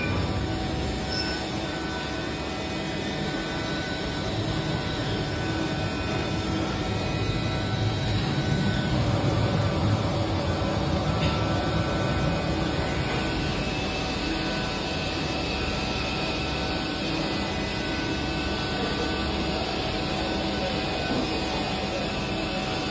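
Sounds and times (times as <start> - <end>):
thin whining tones: 0.0 - 19.2
machine tool hum: 0.0 - 22.9.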